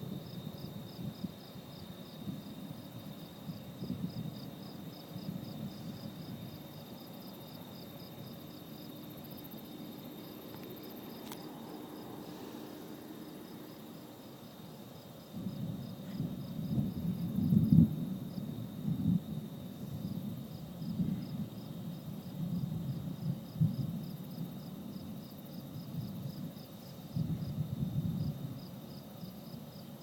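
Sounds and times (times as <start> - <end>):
cricket chirping in pulses: 0.0 - 30.0.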